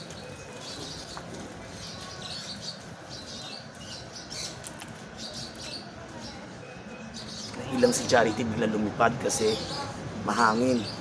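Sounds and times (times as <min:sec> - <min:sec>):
faint outdoor background noise: 0:00.0 - 0:11.0
small birds chirping: 0:00.0 - 0:11.0.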